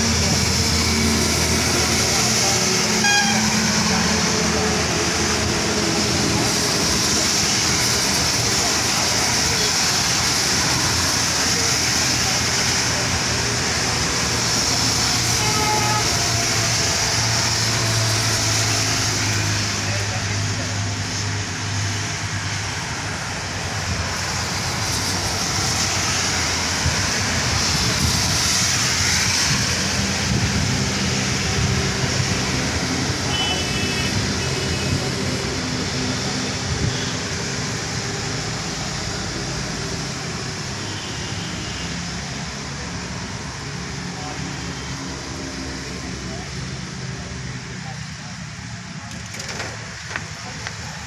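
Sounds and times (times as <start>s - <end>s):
rain hissing: 0.0s - 47.0s
bus engine humming: 0.0s - 51.0s
traffic on a wet road: 0.0s - 51.0s.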